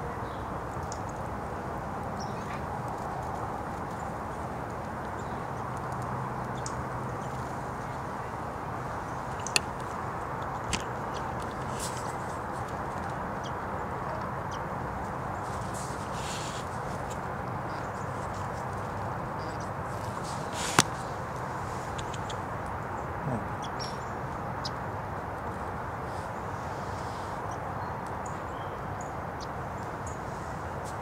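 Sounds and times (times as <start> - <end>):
low outdoor rush: 0.0 - 31.0.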